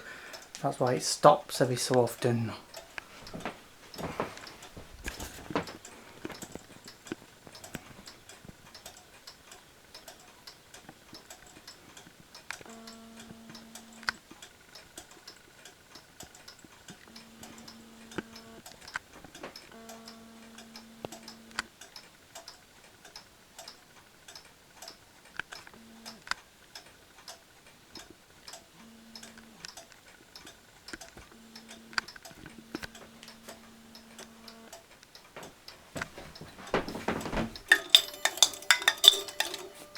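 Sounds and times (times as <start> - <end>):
mechanical clock ticking: 0.2 - 39.9.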